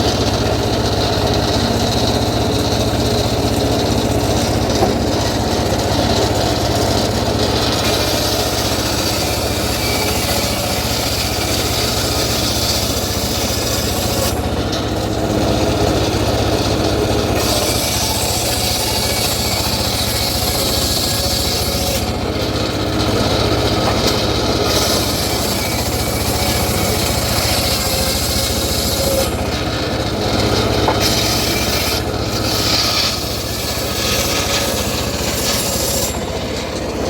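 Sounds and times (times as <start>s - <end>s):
saw blade rasping through wood: 0.0s - 37.0s.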